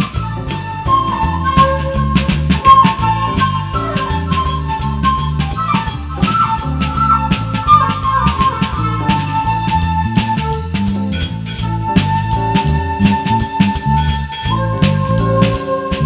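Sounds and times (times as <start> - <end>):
drum kit beat: 0.0 - 16.0
electric bass: 0.0 - 16.0
flute melody: 0.0 - 16.0.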